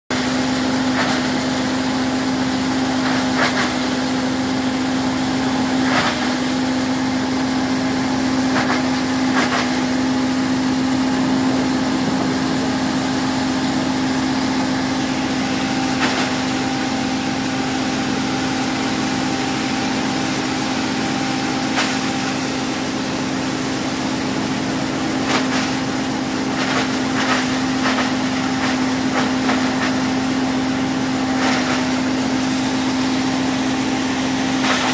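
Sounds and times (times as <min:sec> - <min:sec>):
grinding mill humming: 0:00.1 - 0:34.9.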